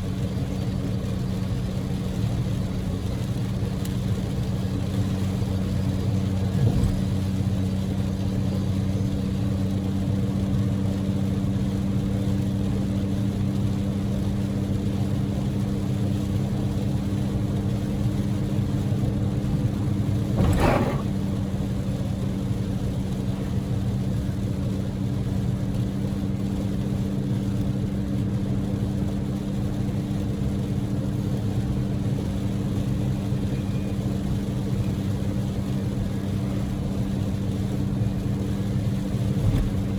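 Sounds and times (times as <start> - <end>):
road noise: 0.0 - 11.7, 15.6 - 39.9
heavy rain and wet tyres: 0.0 - 39.9
car engine droning: 0.1 - 11.4, 14.6 - 26.0, 29.0 - 39.9.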